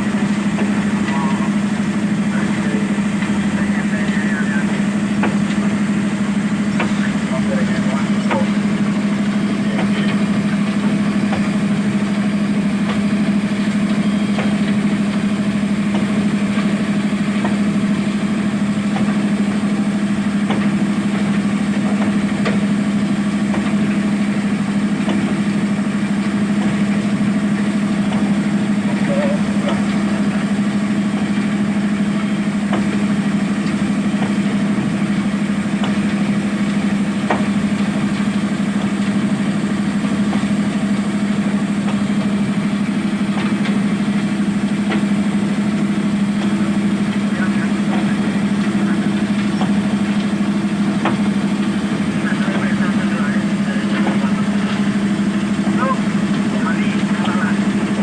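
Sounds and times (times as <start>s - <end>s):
diesel engine humming steadily: 0.0s - 58.0s.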